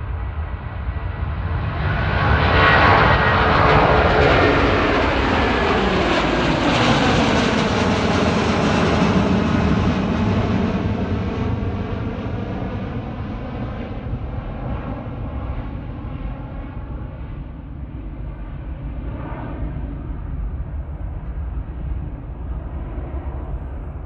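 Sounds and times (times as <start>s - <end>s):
jet engines on takeoff: 0.0s - 24.0s.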